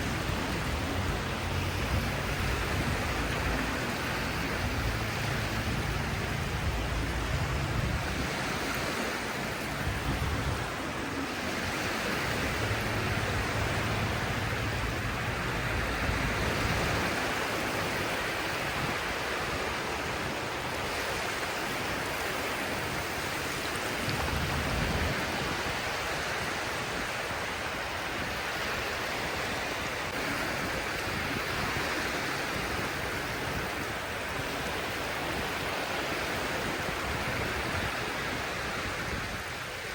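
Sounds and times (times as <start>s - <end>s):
deep rumbling surf surges: 0.0s - 39.9s
waves washing ashore: 0.0s - 39.9s.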